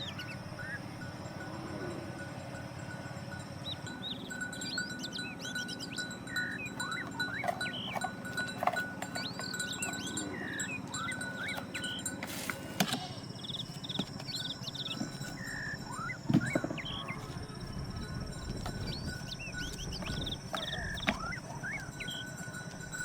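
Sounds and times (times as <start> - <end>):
birds chirping and whistling: 0.0 - 2.5, 3.1 - 23.0.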